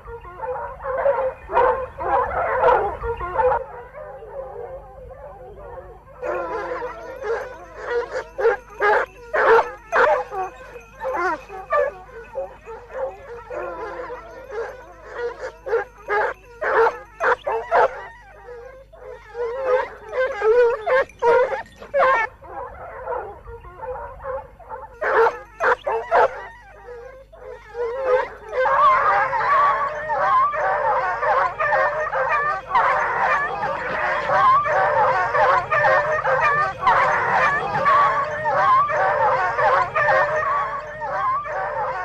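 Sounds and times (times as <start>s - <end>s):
hounds baying in chorus: 0.0s - 42.0s.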